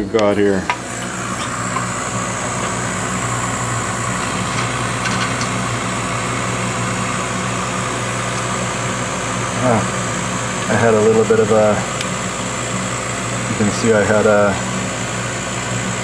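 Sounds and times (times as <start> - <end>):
exhaust fan and pumps humming: 0.0 - 16.0.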